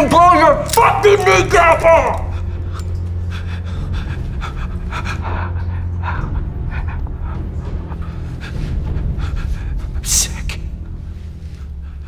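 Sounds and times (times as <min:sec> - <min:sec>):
steady low drone: 0:00.0 - 0:12.0
man panting heavily: 0:02.3 - 0:12.0.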